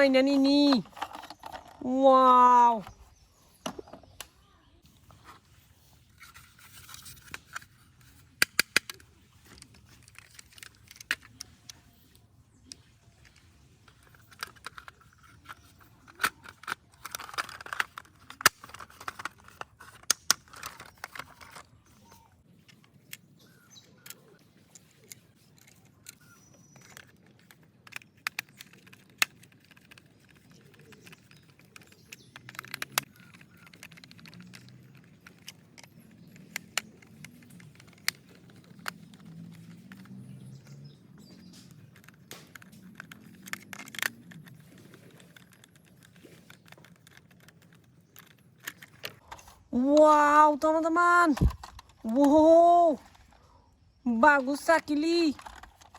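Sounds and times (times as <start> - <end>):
plastic toy parts clicking: 0.0 - 4.4, 6.1 - 53.4, 54.6 - 55.9.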